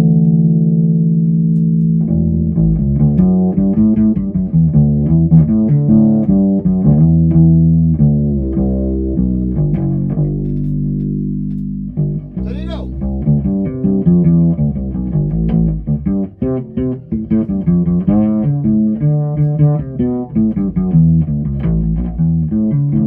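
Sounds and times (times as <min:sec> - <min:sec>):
fretless bass guitar plucked: 0:00.0 - 0:23.0.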